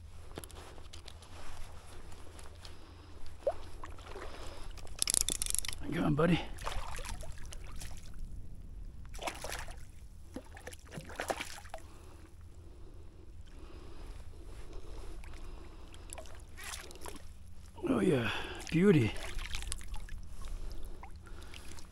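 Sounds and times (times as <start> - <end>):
low steady rumble: 0.0 - 21.9.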